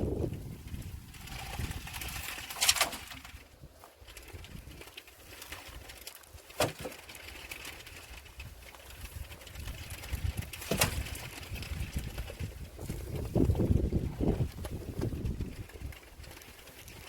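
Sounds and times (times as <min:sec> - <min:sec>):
wind rumble on microphone: 0:00.0 - 0:06.5, 0:07.2 - 0:17.0.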